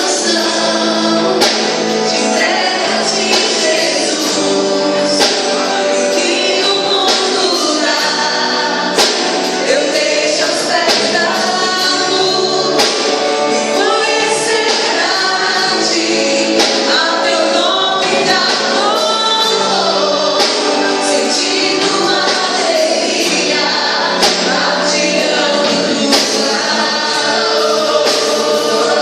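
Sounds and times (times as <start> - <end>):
choir singing with band: 0.0 - 29.0.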